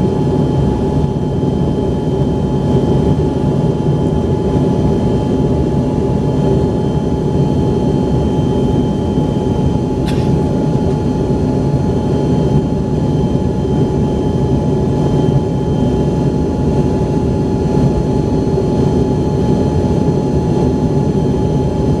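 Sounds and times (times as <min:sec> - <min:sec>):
jet engine cabin drone: 0:00.0 - 0:22.0.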